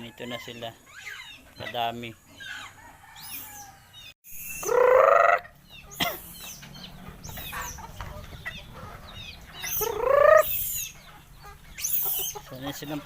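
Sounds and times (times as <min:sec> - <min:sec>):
chickens clucking: 0:00.0 - 0:13.0
chicks cheeping: 0:00.0 - 0:13.0
chicken squawking: 0:00.1 - 0:02.8, 0:04.4 - 0:06.5, 0:07.1 - 0:12.8.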